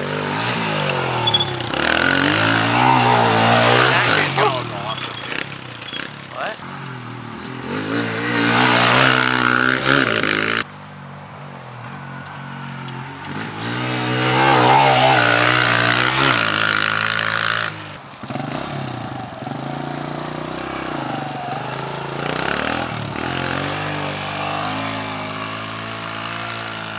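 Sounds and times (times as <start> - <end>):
motorbike engine revving: 0.0 - 10.7, 12.5 - 26.9.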